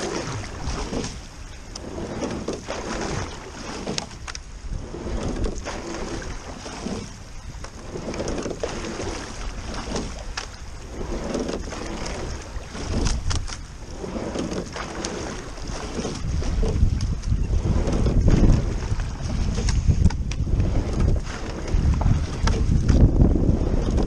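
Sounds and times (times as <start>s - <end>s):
water rushing past hull: 0.0s - 24.0s.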